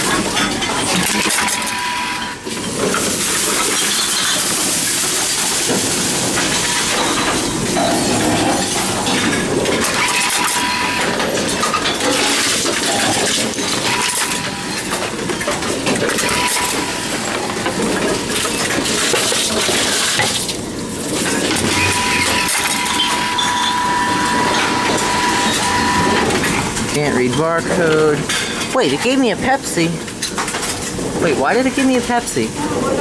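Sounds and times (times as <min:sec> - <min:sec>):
cans and bottles crushed by machine: 0:00.0 - 0:28.8.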